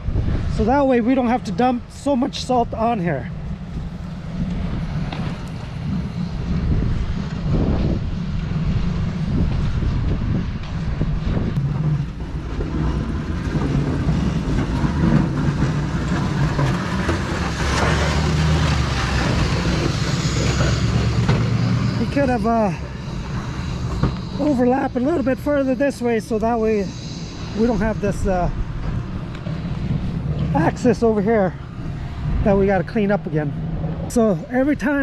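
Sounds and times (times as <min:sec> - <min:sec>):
snow plow engine running: 0:00.6 - 0:35.0
plow scraping snow: 0:03.4 - 0:34.8.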